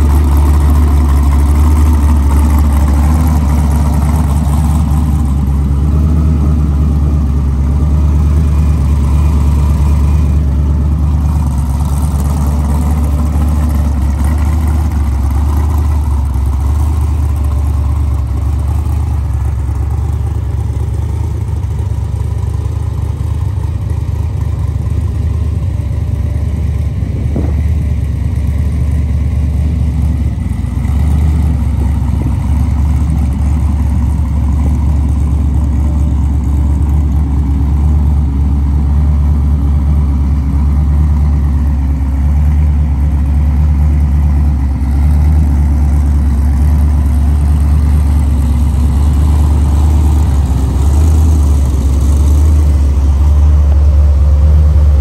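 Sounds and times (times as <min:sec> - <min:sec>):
engine idling with low rumble: 0:00.0 - 0:55.0.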